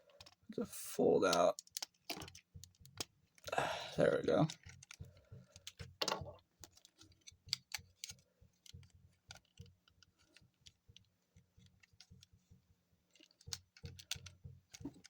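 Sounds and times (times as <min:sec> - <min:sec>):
plastic toy parts clicking: 0:00.0 - 0:00.5, 0:01.3 - 0:11.0, 0:13.1 - 0:15.0.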